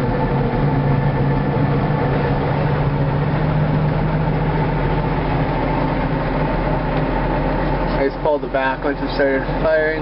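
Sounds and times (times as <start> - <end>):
diesel tractor engine running: 0.0 - 10.0.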